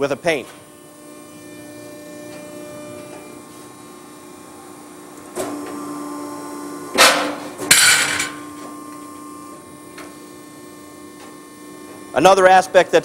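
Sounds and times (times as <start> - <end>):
hydraulic machine humming: 0.0 - 13.0.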